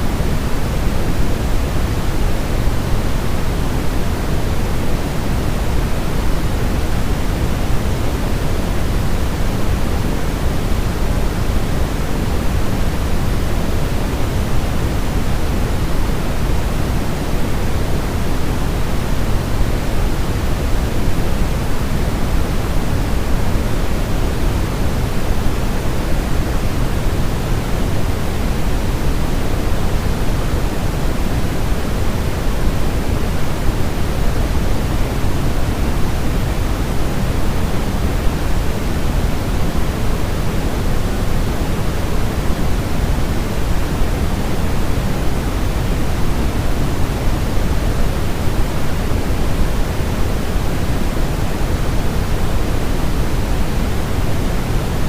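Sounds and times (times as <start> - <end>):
steady synthetic noise hiss: 0.0 - 55.0.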